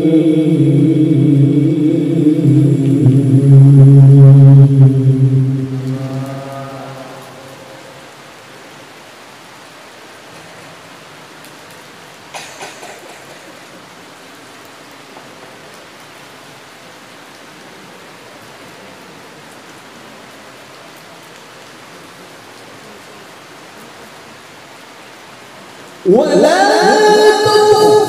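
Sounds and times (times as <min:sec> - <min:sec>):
background hiss: 0:00.0 - 0:28.0.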